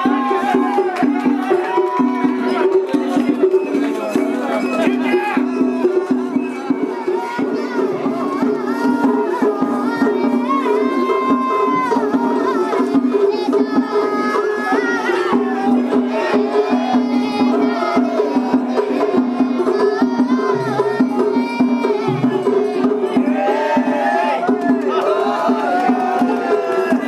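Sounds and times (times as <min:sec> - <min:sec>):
crowd voices: 0:00.0 - 0:27.0
drums beating quickly: 0:00.0 - 0:27.0.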